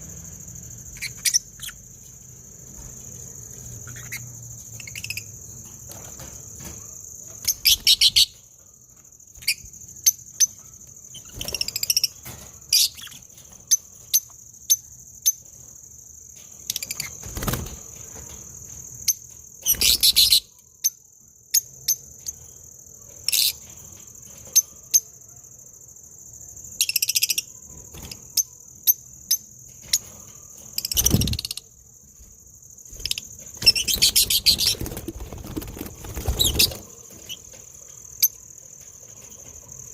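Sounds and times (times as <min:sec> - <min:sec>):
high-pitched insect trill: 0:00.0 - 0:39.9
small birds chirping: 0:00.6 - 0:25.2, 0:26.5 - 0:39.8.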